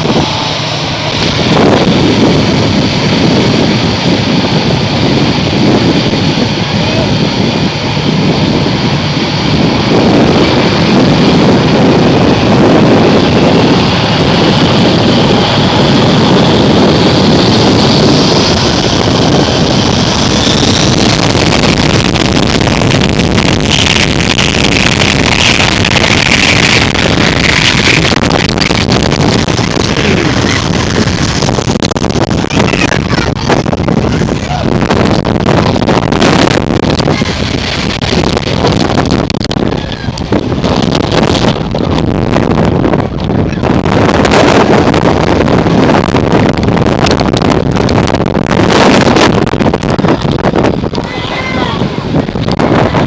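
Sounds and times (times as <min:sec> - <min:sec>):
jet engine whine: 0:00.0 - 0:53.0
jet engines roaring: 0:00.0 - 0:53.0.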